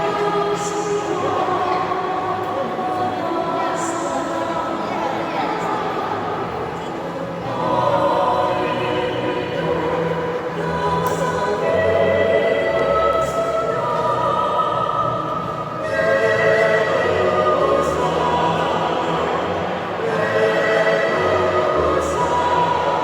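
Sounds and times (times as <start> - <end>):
choir singing sustained chords: 0.0 - 23.0.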